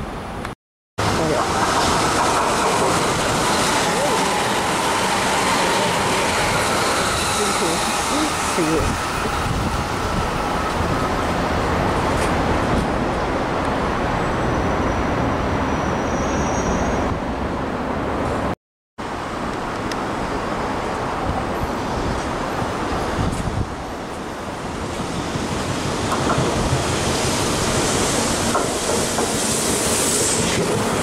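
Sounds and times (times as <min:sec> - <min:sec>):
electric trains rumbling past: 0:01.0 - 0:31.0.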